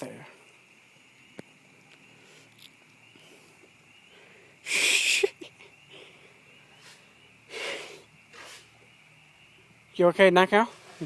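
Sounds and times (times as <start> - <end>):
frog chorus trilling: 0.0 - 11.0.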